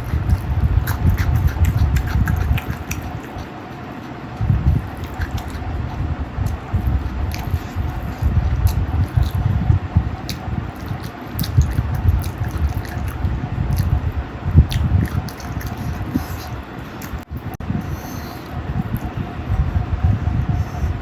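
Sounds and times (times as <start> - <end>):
wet chewing and lip-smacking: 0.0 - 20.9.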